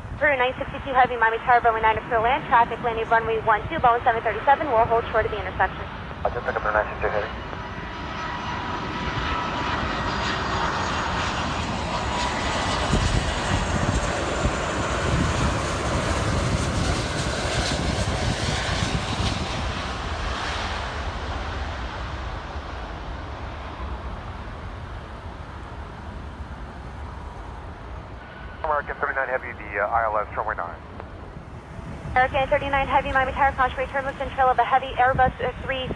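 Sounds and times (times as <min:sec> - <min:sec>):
faint engine whine: 0:00.0 - 0:35.9
jet airliner passing: 0:00.0 - 0:35.9.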